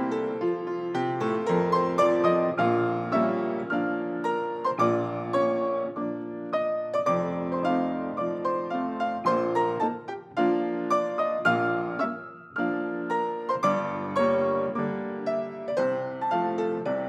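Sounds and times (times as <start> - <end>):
solo piano: 0.0 - 17.0.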